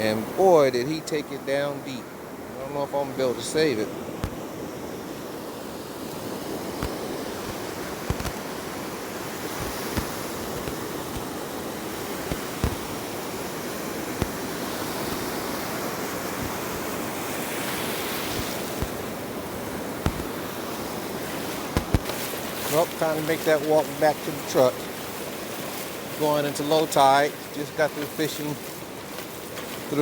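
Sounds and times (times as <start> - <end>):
ocean surf washing onto beach: 0.0 - 30.0.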